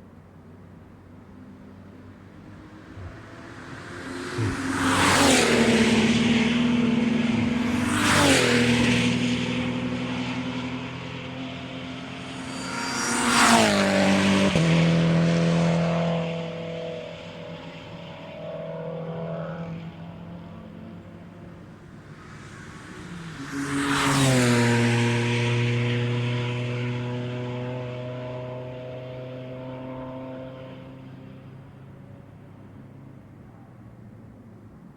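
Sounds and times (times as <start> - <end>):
race cars passing at speed: 0.0 - 34.9.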